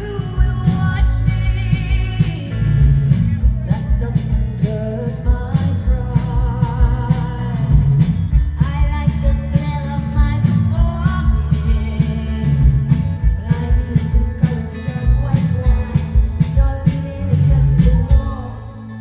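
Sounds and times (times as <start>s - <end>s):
live rock band playing: 0.0s - 19.0s
woman singing: 0.0s - 19.0s.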